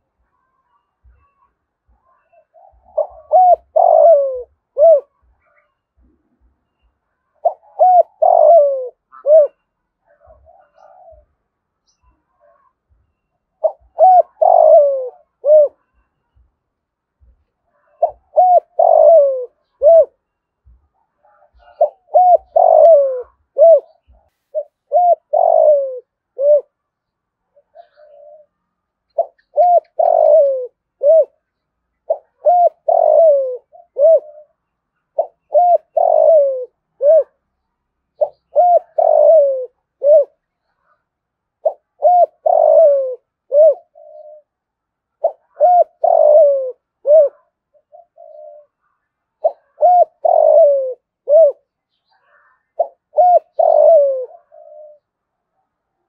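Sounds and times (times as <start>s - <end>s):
dove cooing: 0.0s - 6.5s, 7.2s - 12.9s, 13.6s - 16.0s, 17.2s - 26.9s, 27.5s - 41.0s, 41.6s - 44.6s, 45.2s - 55.2s.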